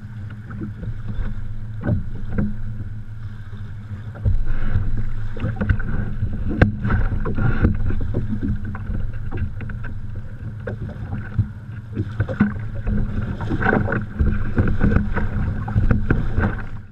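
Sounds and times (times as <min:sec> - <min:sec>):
steady low rumble: 0:00.0 - 0:16.9
waves lapping against plastic hull: 0:00.0 - 0:16.9.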